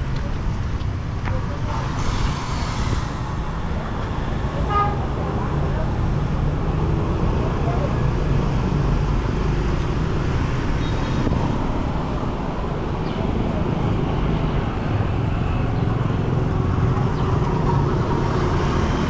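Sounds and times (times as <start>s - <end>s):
city street traffic hum: 0.0s - 19.0s.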